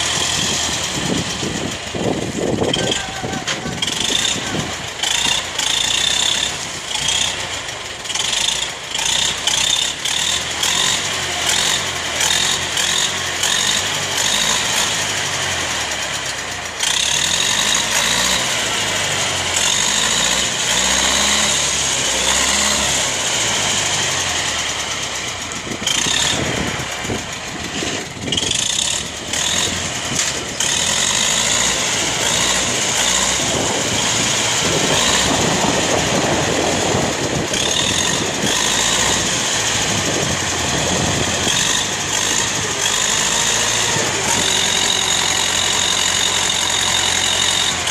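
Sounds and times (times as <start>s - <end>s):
tractor diesel engine revving: 0.0s - 47.9s.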